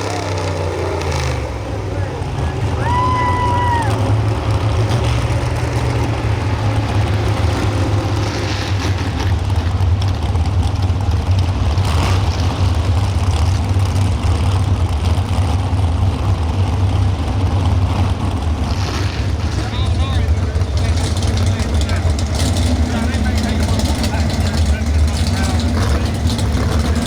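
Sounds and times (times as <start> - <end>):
truck engine idling: 0.0 - 11.8, 12.7 - 27.0.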